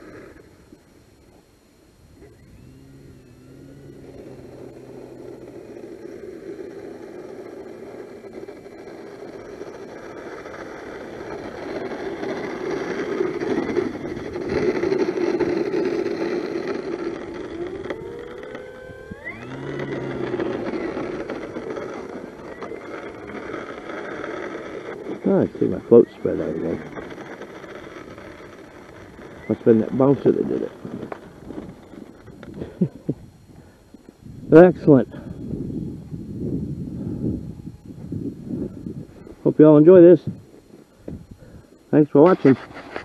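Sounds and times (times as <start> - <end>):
electric model plane motor whirring: 0.0 - 0.9, 2.1 - 43.0.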